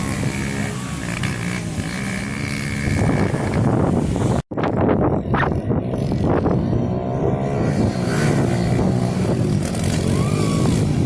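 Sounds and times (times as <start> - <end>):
pit bike engine revving: 0.0 - 4.4, 5.4 - 11.0.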